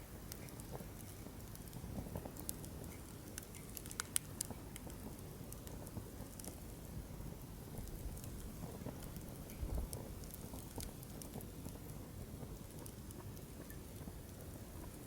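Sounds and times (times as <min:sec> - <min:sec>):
campfire flames rumbling: 0:00.0 - 0:15.0
fire crackling and popping: 0:00.0 - 0:15.0.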